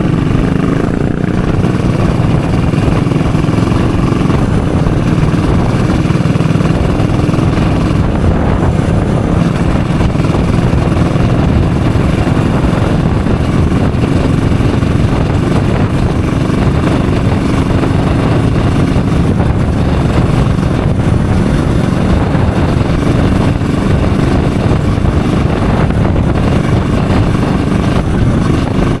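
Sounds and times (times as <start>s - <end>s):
motorcycle engine cruising: 0.0s - 29.0s
road and wind noise: 0.0s - 29.0s.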